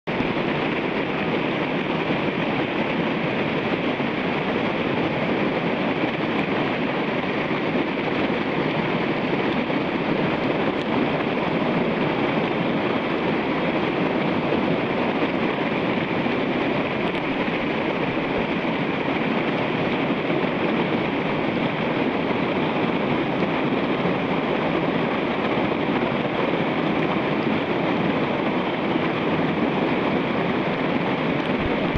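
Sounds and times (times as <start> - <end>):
rapids rushing: 0.1 - 31.9.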